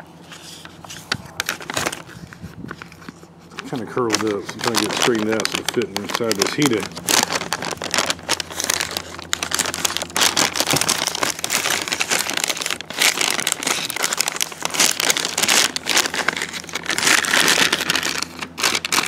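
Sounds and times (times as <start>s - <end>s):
plastic pouches crinkling and rustling: 0.3s - 19.0s.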